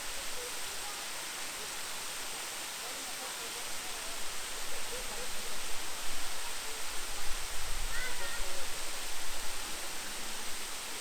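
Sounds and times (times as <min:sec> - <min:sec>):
faint voices of people: 0:00.0 - 0:11.0.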